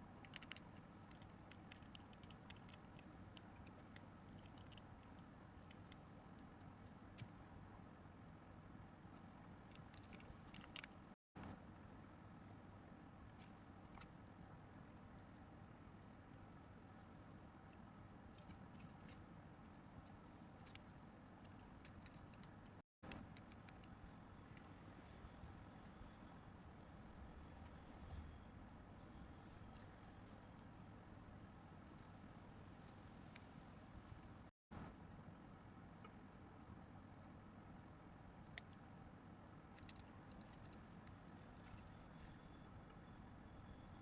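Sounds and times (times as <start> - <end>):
small animals feeding clicks: 0.0 - 7.7, 9.0 - 16.6, 17.6 - 43.0
low steady hum: 0.0 - 44.0.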